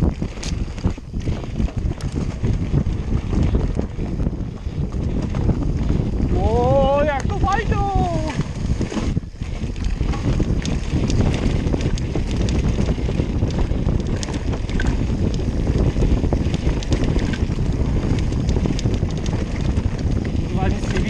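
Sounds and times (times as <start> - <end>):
bike clicks and rattles: 0.0 - 21.0
tyre rumble: 0.0 - 21.0
wind rushing over microphone: 0.0 - 21.0.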